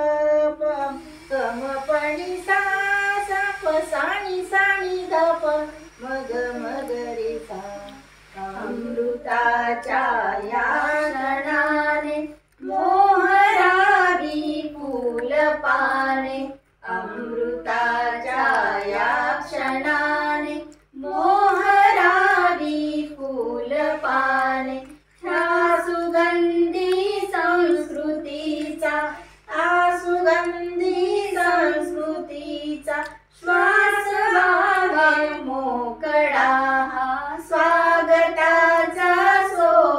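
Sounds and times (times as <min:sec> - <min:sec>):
girl and woman singing: 0:00.0 - 0:39.9.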